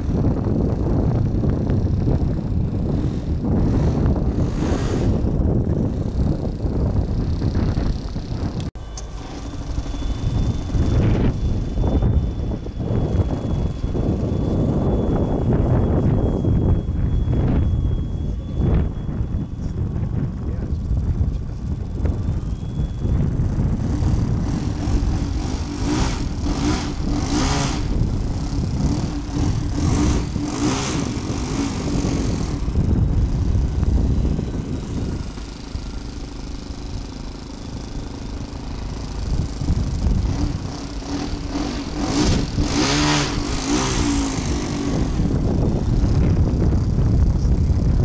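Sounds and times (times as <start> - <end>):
model plane motor buzzing: 0.0 - 48.0
wind rumble on microphone: 0.0 - 48.0.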